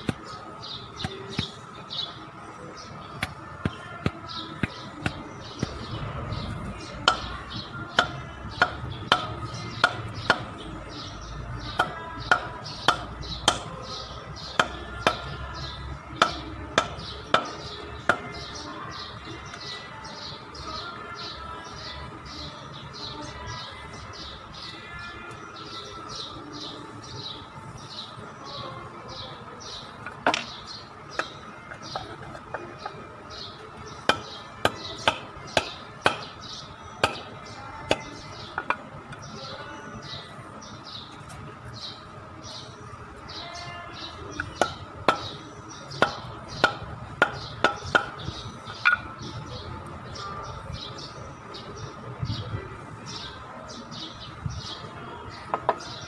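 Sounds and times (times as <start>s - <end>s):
bird chirping: 0.0s - 52.5s.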